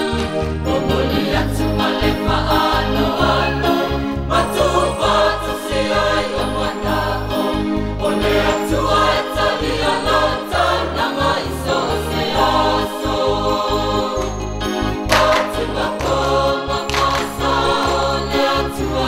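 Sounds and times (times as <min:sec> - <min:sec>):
group singing over bass line: 0:00.0 - 0:19.0.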